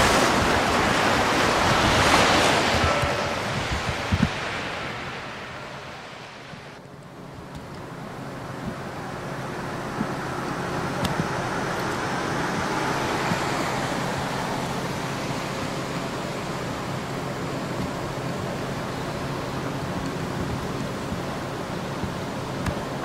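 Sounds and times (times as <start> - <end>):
steady traffic hum: 0.0 - 23.0.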